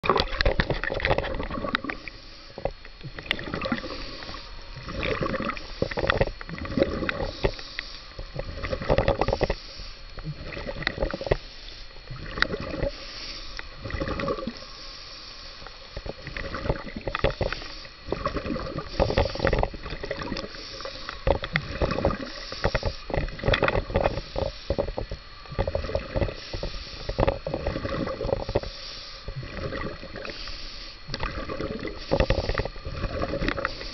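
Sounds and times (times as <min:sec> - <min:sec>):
muffled water sloshing: 0:00.0 - 0:33.9.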